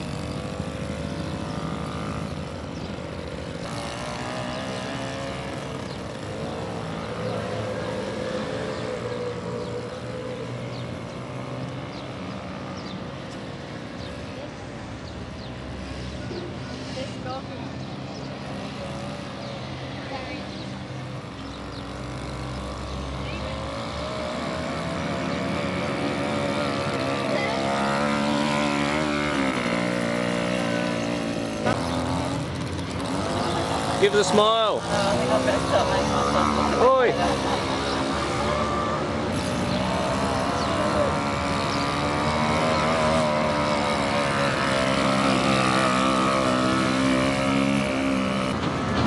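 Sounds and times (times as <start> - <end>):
quad bike engine running: 0.0 - 49.0.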